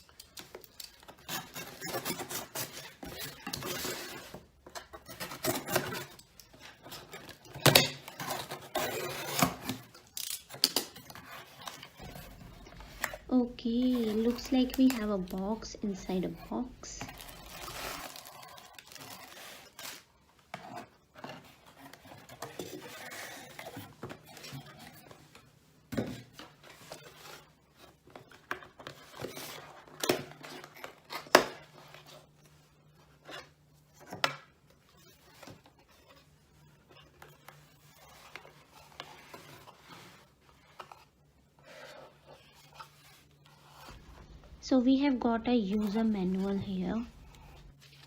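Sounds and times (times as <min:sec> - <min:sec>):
cardboard packaging rustling: 0:00.0 - 0:25.4, 0:34.8 - 0:48.0.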